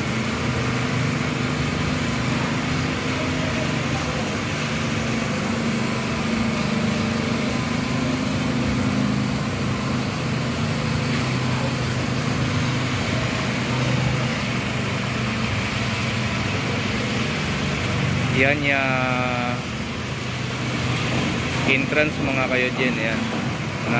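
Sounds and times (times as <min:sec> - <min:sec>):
power trowel engine running: 0:00.0 - 0:23.9.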